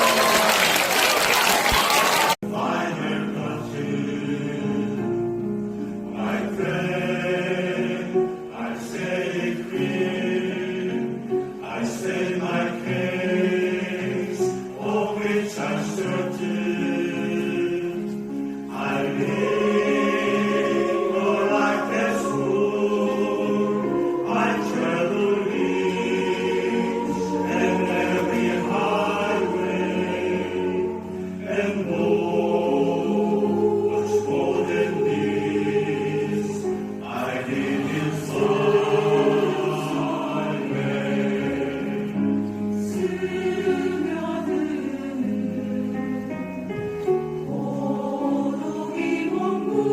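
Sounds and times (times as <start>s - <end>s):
choir singing in harmony: 0.0s - 49.9s.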